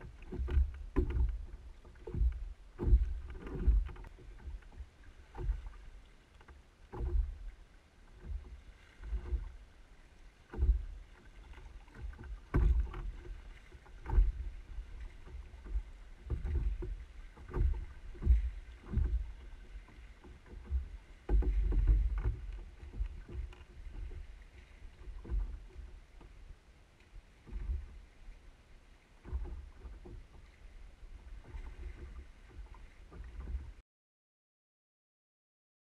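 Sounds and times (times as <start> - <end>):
paddle knocking against hull: 0.0 - 26.5, 27.3 - 28.4, 29.1 - 33.8
canoe paddle strokes: 0.0 - 33.8.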